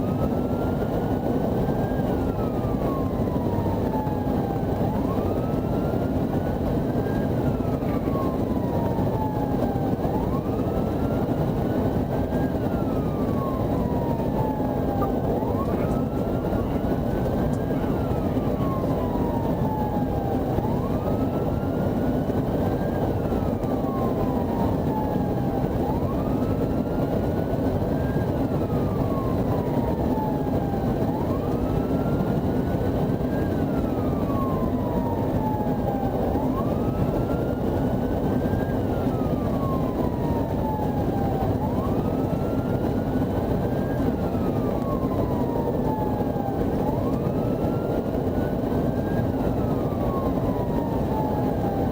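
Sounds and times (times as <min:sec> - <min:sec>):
police siren wailing: 0:00.0 - 0:51.9.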